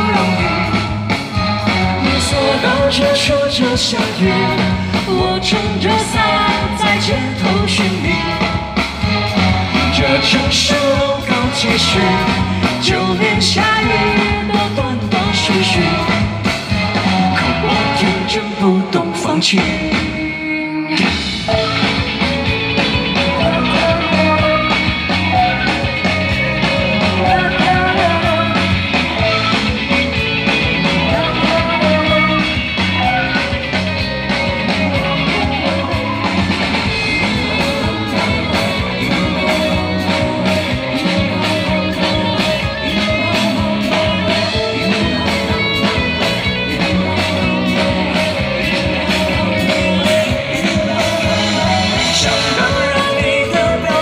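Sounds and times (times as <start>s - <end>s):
drums with cymbals: 0.0s - 54.0s
electric guitar: 0.0s - 54.0s
live rock band playing: 0.0s - 54.0s.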